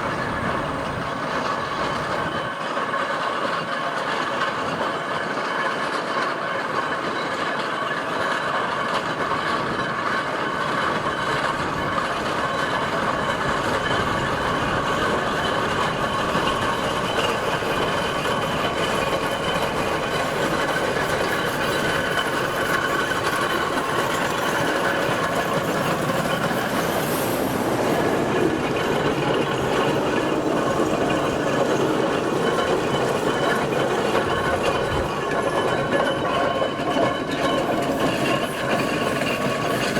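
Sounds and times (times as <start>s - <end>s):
steam traction engine clanking: 0.0s - 39.9s.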